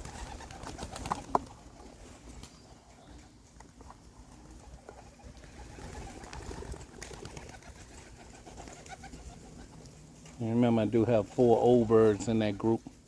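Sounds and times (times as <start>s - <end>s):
pigeons cooing: 0.0s - 12.4s.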